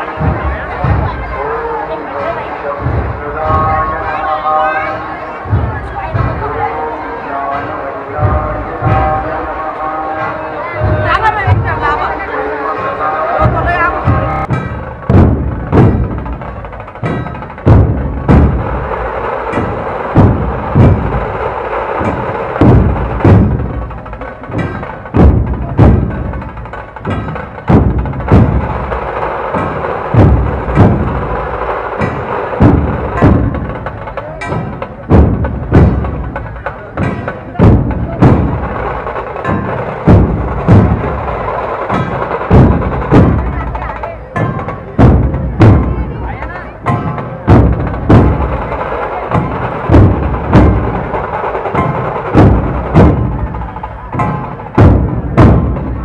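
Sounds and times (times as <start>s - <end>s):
drum troupe playing: 0.0s - 56.0s
heavy unison drum strokes: 0.0s - 56.0s.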